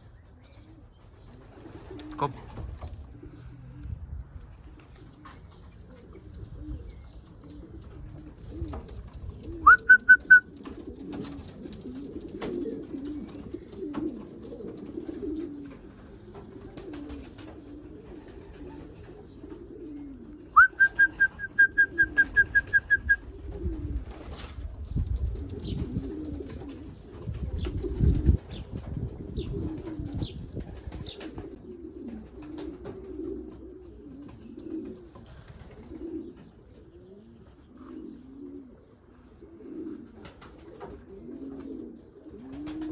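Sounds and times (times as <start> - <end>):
pigeons cooing: 0.0 - 42.9.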